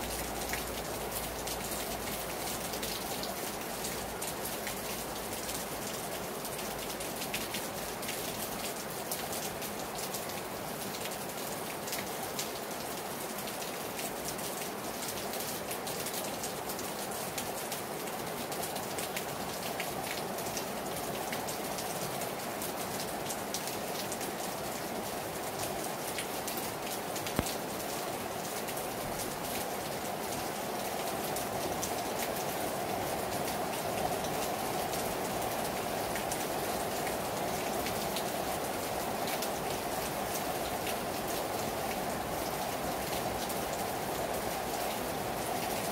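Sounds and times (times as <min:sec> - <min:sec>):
hard rain pattering: 0:00.0 - 0:45.9.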